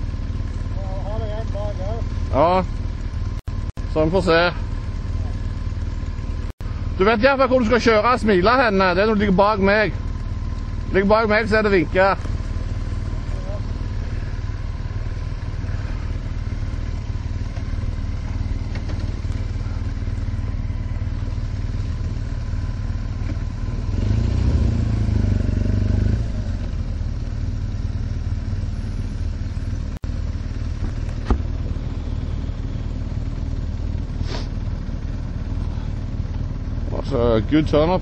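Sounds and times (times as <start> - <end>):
motorcycle engine revving: 0.0 - 38.0
motorcycle engines idling: 0.0 - 38.0.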